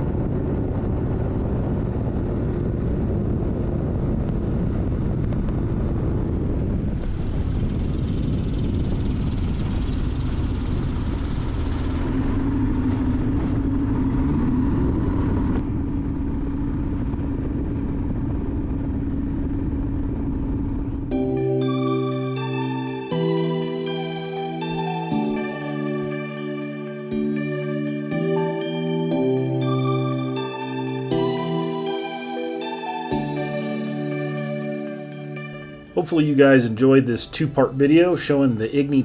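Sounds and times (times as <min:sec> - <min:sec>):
aircraft engine droning: 0:00.0 - 0:39.0.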